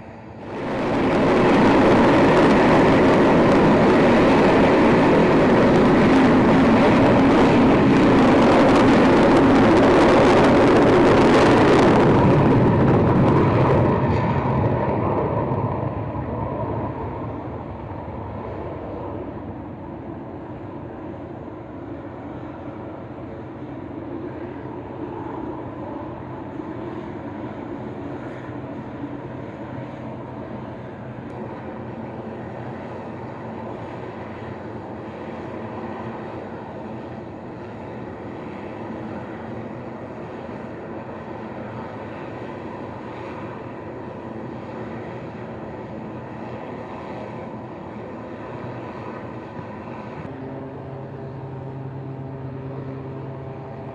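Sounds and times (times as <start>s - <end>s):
aircraft engine roar: 0.0s - 53.9s
steady background noise: 0.0s - 53.9s.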